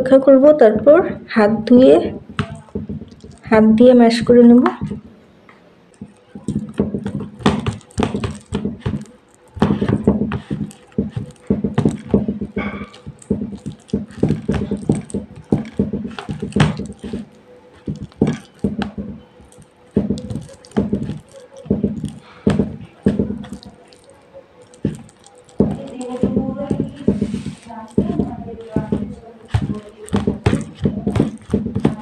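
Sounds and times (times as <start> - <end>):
dates squished by hand in bowl: 2.2 - 5.1, 5.9 - 32.0.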